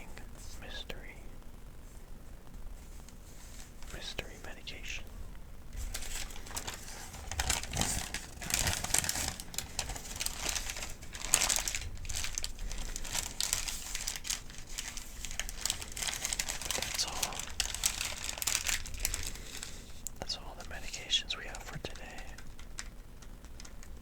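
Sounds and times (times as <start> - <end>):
paper crinkling and rustling: 1.8 - 24.0.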